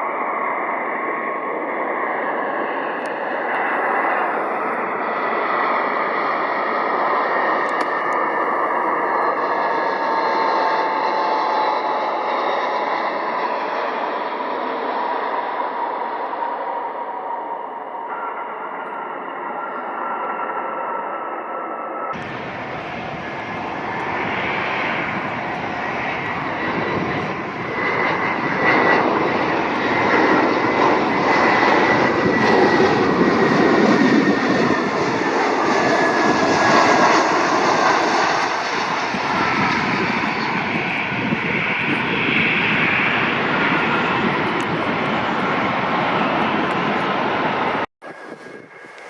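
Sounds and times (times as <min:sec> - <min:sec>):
jet airliner engines passing: 0:00.0 - 0:49.0.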